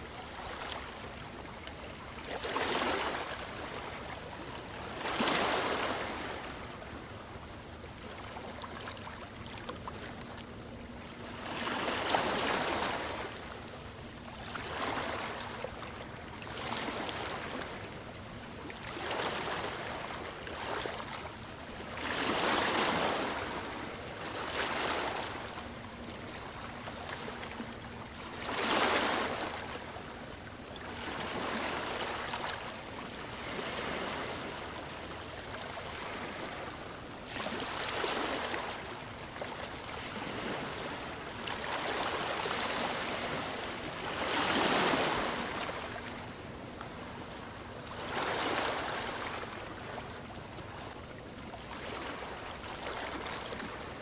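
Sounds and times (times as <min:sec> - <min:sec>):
ocean waves breaking on shore: 0:00.0 - 0:10.2, 0:10.9 - 0:54.0.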